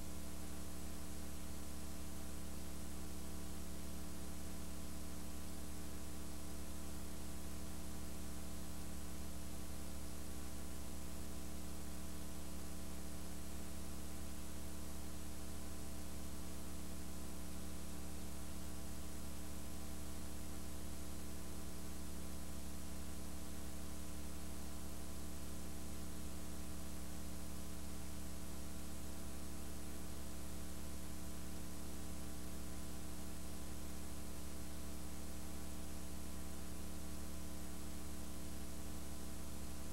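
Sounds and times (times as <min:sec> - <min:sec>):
buzzy electrical mains hum: 0:00.0 - 0:39.9.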